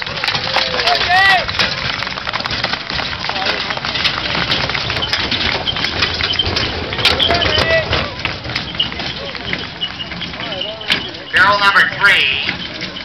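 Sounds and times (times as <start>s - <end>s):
crowd clapping: 0.0s - 12.7s.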